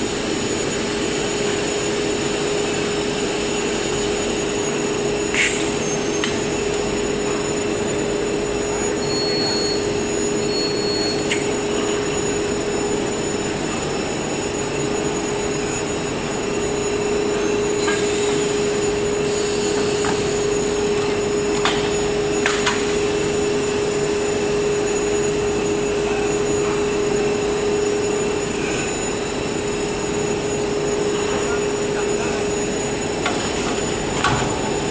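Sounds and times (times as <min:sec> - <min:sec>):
wrapping machine drone: 0:00.0 - 0:34.9.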